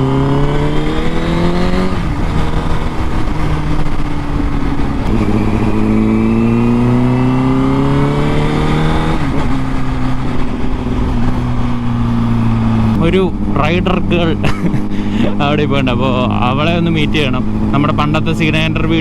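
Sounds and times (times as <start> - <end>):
motorcycle engine revving through gears: 0.0 - 14.4, 15.2 - 19.0.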